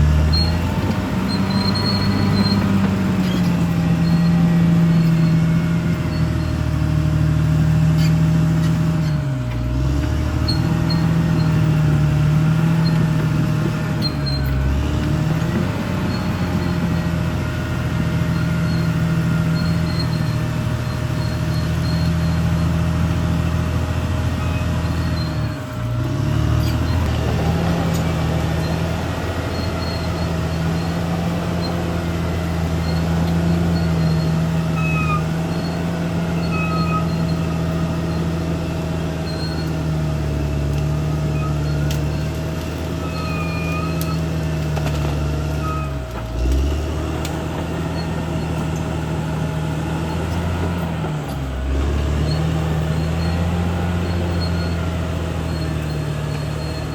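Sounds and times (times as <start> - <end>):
bulldozer diesel engine running: 0.0 - 56.9
faint short squeaks: 0.1 - 7.0, 7.9 - 17.2, 18.2 - 23.3, 24.3 - 27.2, 27.8 - 46.8, 47.4 - 49.0, 50.0 - 56.9.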